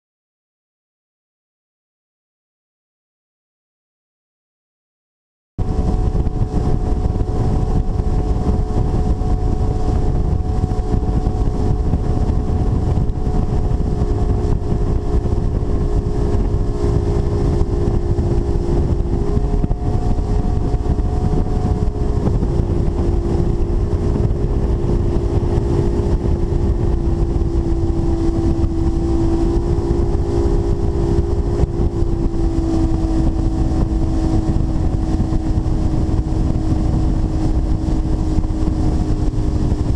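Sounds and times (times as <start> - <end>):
outboard motor droning: 5.6 - 39.9
rush of wind and water: 5.6 - 39.9.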